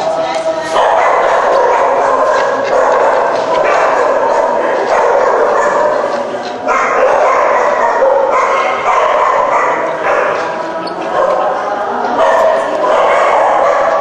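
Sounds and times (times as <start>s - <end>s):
animals yelping and barking: 0.0s - 14.0s
voices: 0.0s - 14.0s.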